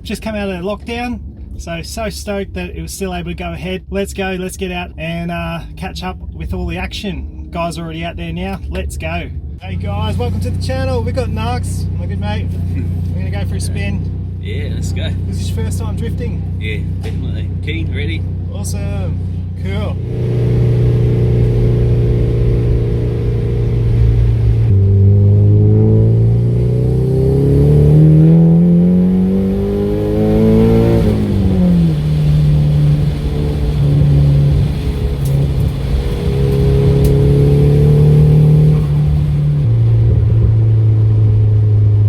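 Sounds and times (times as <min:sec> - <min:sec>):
car engine revving: 0:05.7 - 0:42.0.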